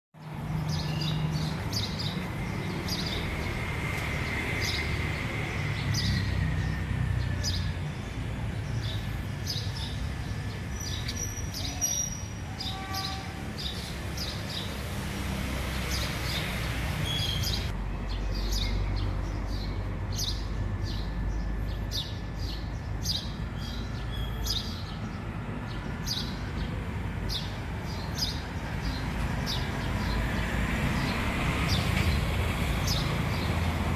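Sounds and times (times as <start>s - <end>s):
small birds chirping: 0.2s - 15.0s, 15.6s - 33.9s.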